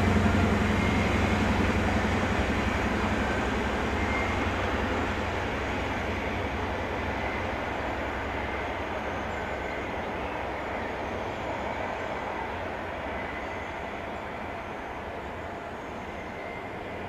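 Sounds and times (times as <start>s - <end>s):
diesel train engines running: 0.0s - 17.0s
wheel-on-rail noise: 0.0s - 17.0s.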